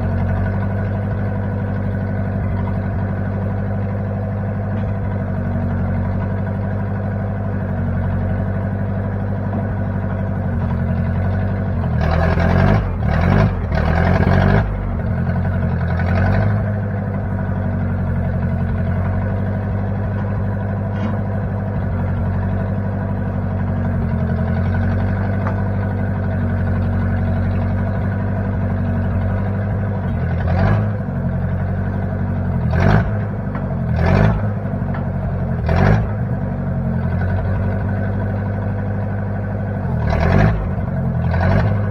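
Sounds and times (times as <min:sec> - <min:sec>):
backhoe engine running: 0:00.0 - 0:41.9.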